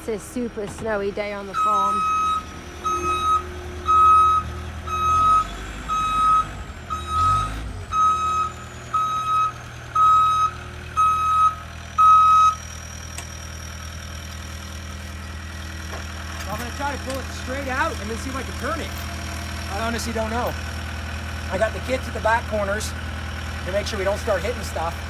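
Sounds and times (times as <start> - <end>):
engine running: 0.0 - 25.0
vehicle backup alarm beeping: 0.1 - 25.0.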